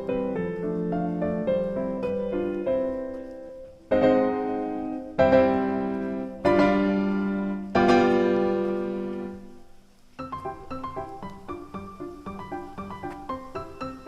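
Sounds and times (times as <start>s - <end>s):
solo piano chords: 0.0s - 14.0s.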